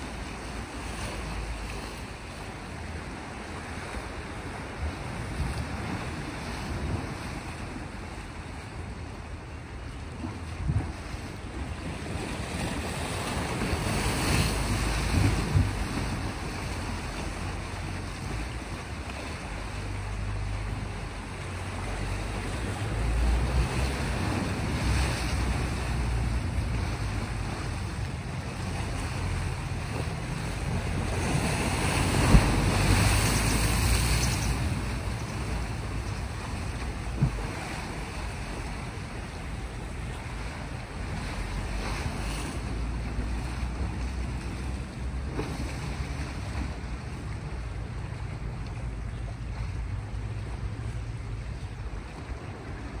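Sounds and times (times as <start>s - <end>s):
waves washing against rocky shore: 0.0s - 53.0s
wind buffeting microphone: 10.1s - 53.0s.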